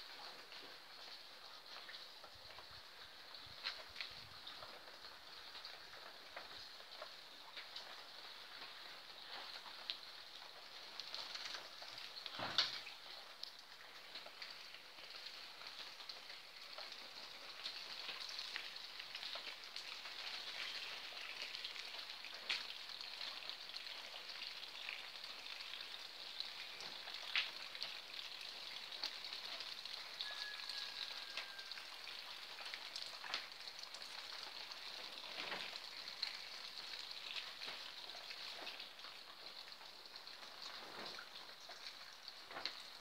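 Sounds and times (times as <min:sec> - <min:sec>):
rain falling on puddles: 0:00.0 - 0:43.0.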